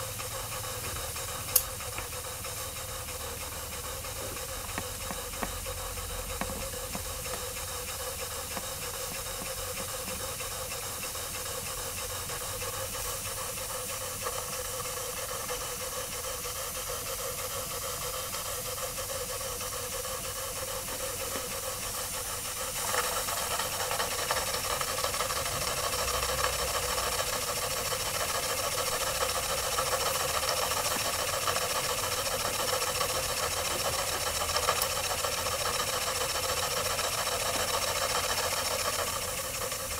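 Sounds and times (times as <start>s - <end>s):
steam engine mechanical running: 0.0s - 39.9s
steam hissing: 0.0s - 39.9s.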